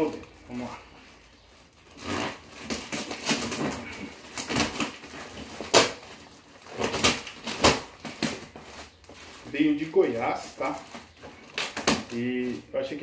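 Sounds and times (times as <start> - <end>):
packing tape and cardboard scratching: 0.0 - 13.0.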